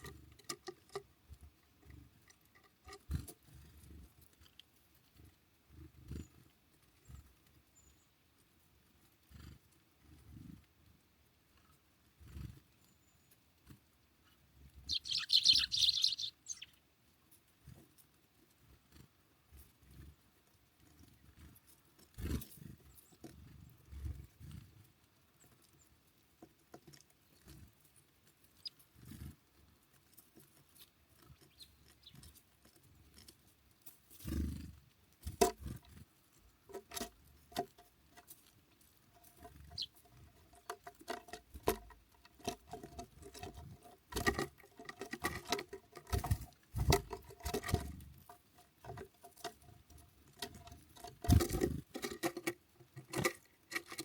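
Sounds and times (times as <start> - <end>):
birds pecking at seed feeder: 0.0 - 54.0.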